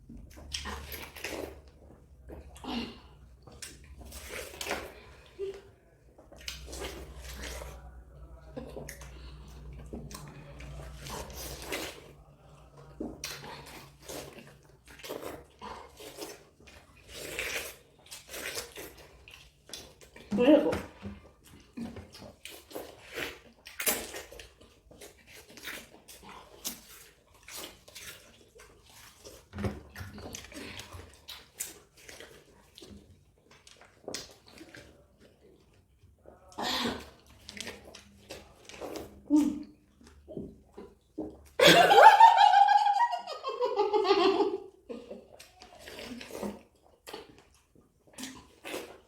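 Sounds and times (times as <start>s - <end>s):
wet chewing of watermelon: 0.0s - 41.7s, 44.5s - 49.0s.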